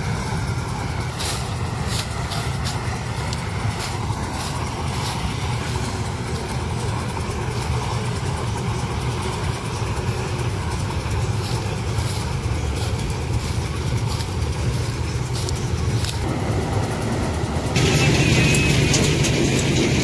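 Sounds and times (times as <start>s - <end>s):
combine harvester engine: 0.0s - 20.0s
tractor engine under load: 0.0s - 20.0s.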